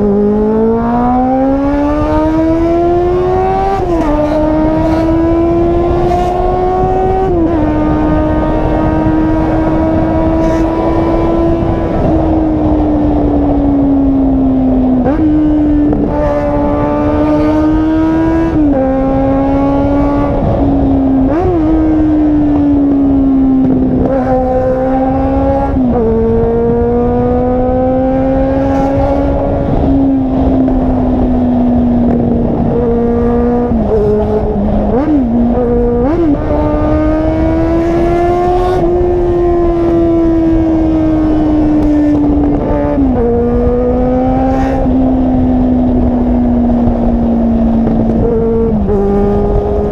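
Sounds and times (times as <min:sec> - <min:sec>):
car engine and exhaust droning: 0:00.0 - 0:49.9.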